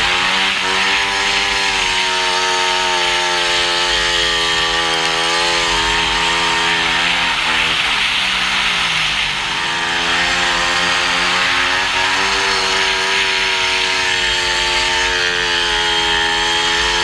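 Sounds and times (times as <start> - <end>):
motorcycle engine revving high: 0.0 - 17.0.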